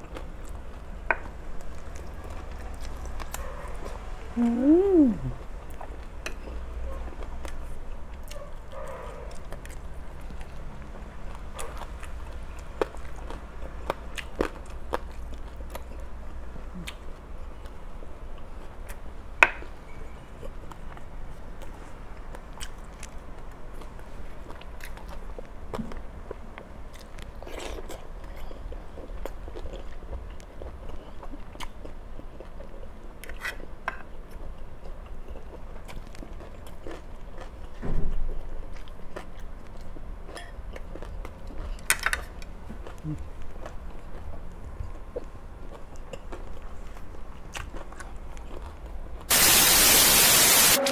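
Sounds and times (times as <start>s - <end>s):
person chewing crunchy food: 0.0s - 50.7s.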